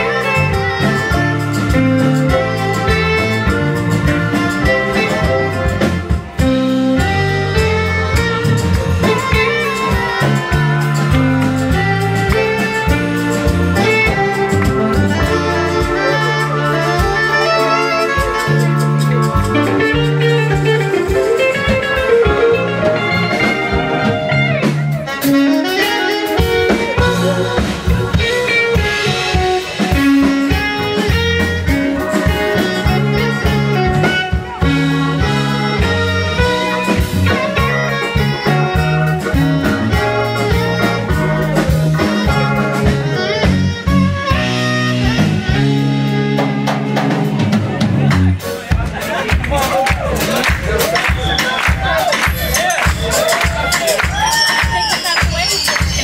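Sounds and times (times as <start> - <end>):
saxophone: 0.0 - 48.6, 49.8 - 56.0
bass line: 0.0 - 56.0
drums: 0.0 - 56.0
electric guitar: 0.0 - 56.0.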